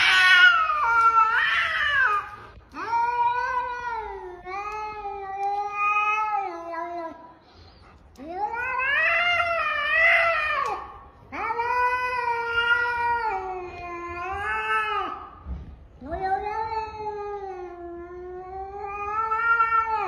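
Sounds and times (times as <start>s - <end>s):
cat yowling: 0.0s - 7.2s, 8.2s - 15.3s, 16.1s - 20.0s.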